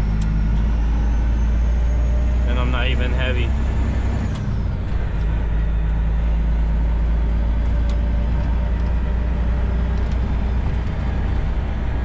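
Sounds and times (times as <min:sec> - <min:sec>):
road rumble: 0:00.0 - 0:12.0
truck diesel engine drone: 0:00.0 - 0:12.0.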